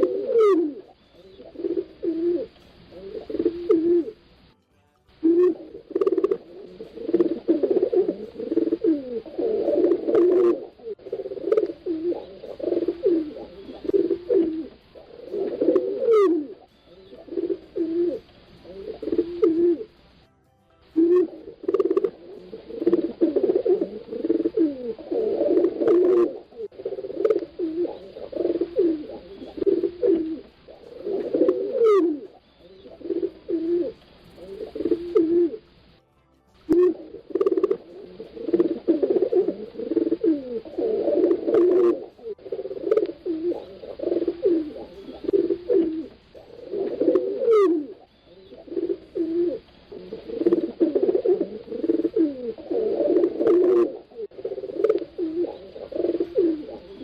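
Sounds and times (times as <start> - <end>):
pigeons cooing: 0.0 - 4.5, 5.2 - 20.2, 21.0 - 35.9, 36.7 - 57.0.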